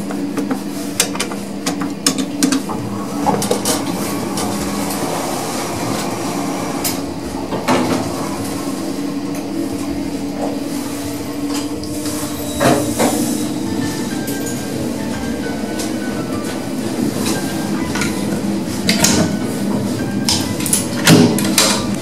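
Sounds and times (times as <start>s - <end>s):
lift car hum and rattle: 0.0s - 22.0s.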